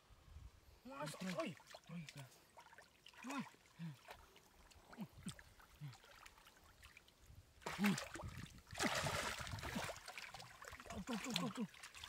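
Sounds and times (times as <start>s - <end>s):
water splashing and sloshing: 0.9s - 12.0s.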